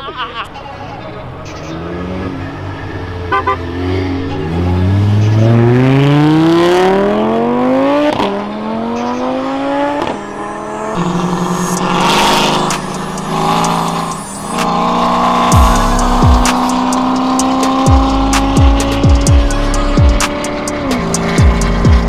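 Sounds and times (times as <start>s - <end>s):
car engine accelerating hard: 1.0s - 22.0s.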